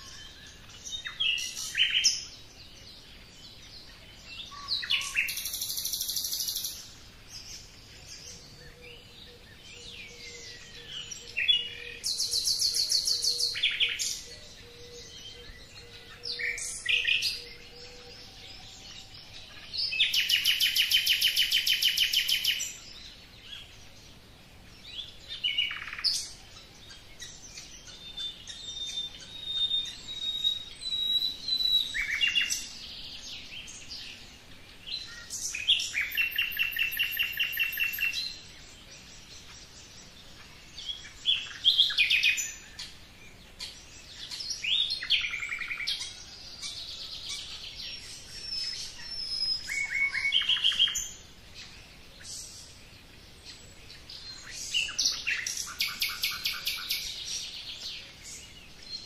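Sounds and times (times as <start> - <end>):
songbirds trilling: 0.0 - 59.0
bird chirps and calls: 3.5 - 23.8, 24.8 - 59.0.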